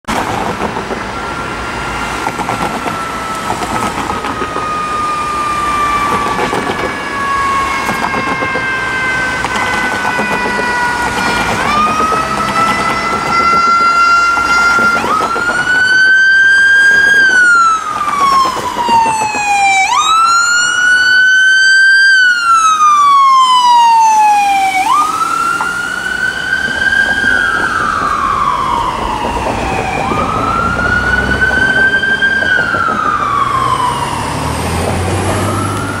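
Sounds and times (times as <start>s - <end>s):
city traffic: 0.0s - 36.0s
ambulance siren wailing: 0.1s - 36.0s.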